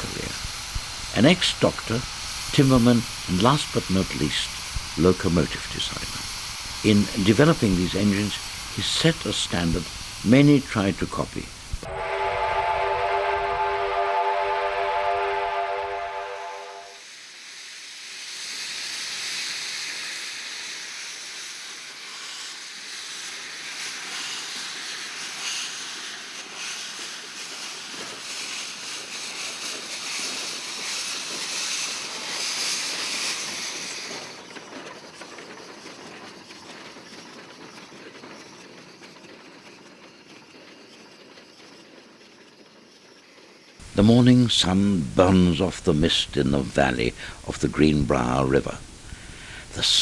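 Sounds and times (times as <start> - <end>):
steam locomotive hissing steam: 0.0 - 50.0.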